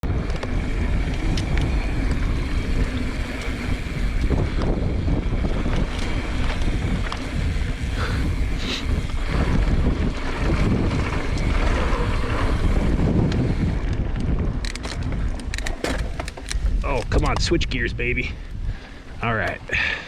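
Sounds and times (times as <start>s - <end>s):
bike tyres and rattle on dirt: 0.0s - 20.0s
wind buffeting microphone: 0.0s - 20.0s.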